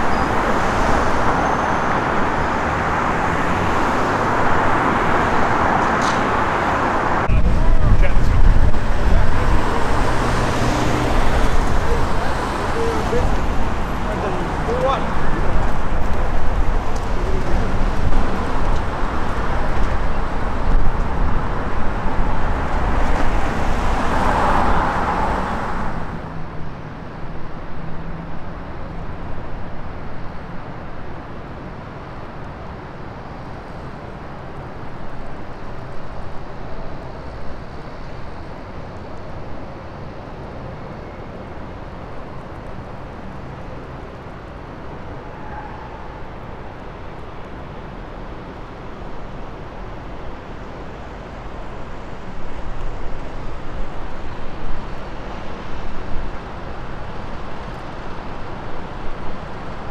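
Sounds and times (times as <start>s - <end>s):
city street traffic: 0.0s - 59.9s
freight train rolling on tracks: 0.0s - 59.9s.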